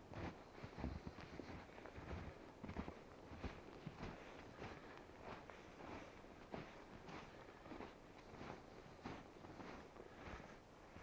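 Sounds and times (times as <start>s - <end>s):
faint footsteps walking: 0.1s - 11.0s.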